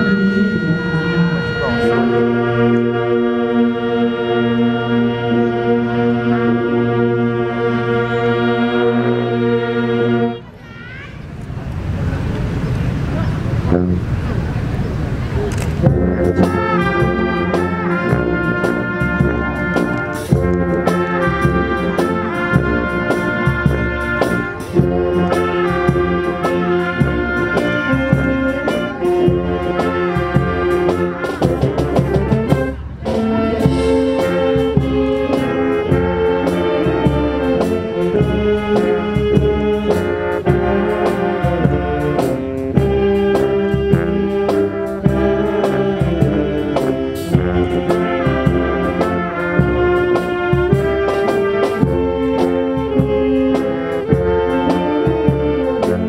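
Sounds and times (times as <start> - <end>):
marching band playing: 0.0 - 56.0.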